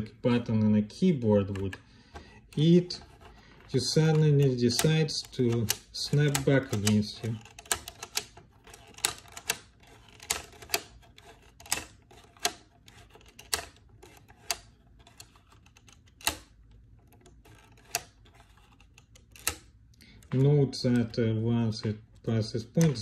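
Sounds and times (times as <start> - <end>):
plastic toy mechanism clicking: 1.4 - 21.2.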